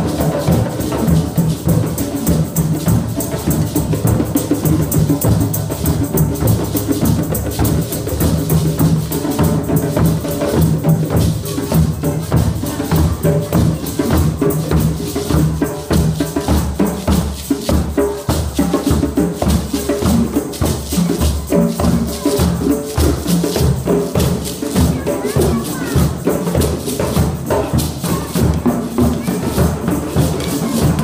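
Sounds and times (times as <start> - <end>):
drum circle playing: 0.0 - 31.0.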